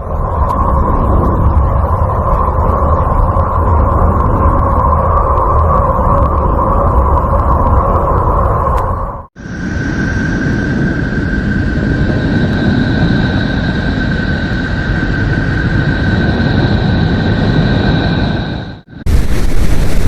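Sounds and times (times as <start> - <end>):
faint whistling tones: 0.0 - 19.1
steady low rumble: 0.0 - 20.0.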